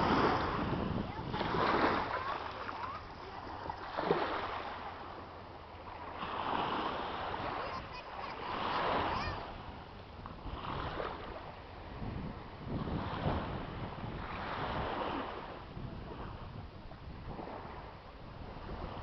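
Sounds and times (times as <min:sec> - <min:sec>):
water waves washing: 0:00.0 - 0:19.0.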